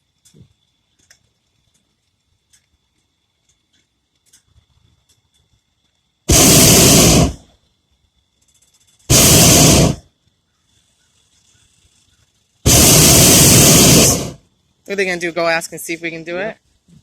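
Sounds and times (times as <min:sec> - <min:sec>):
propane burner blasts: 0:00.0 - 0:17.0.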